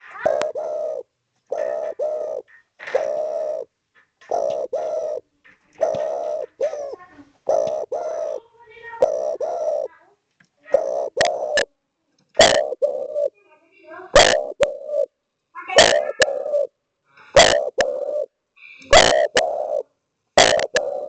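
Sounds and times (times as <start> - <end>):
dove cooing: 0.0 - 10.0, 10.6 - 11.7, 12.3 - 13.4, 14.0 - 21.0.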